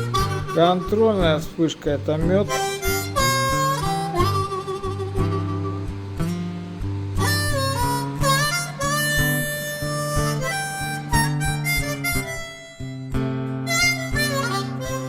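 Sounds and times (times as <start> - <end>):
harmonica melody with bent notes: 0.0 - 15.0
low accompaniment with steady beat: 0.0 - 15.0.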